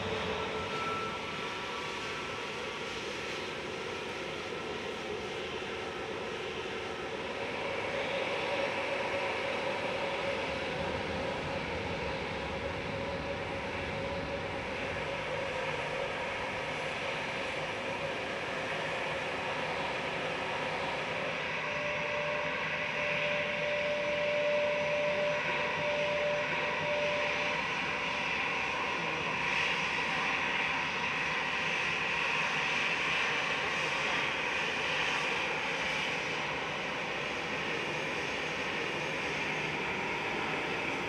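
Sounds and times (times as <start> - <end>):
thin steady whine: 0.0 - 41.0.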